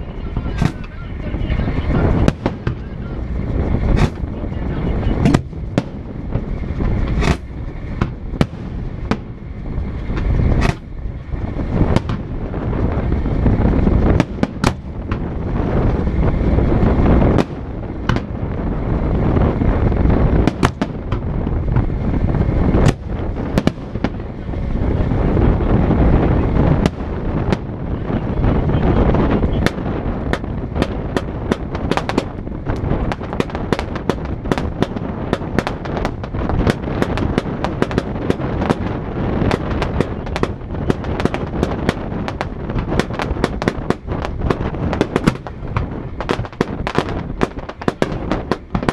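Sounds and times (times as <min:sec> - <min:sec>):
fireworks booming: 0:00.0 - 0:48.9
fireworks cracking: 0:00.0 - 0:48.9.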